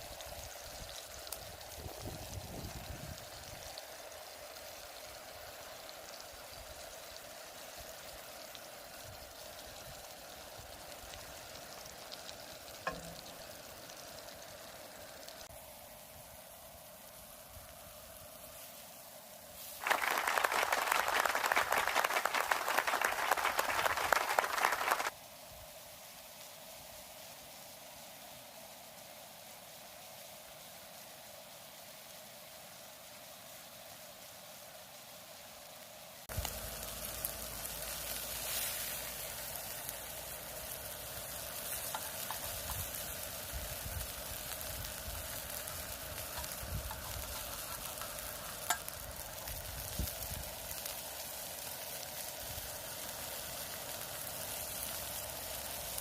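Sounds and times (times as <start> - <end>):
beef sizzling on a griddle: 0.0 - 56.0.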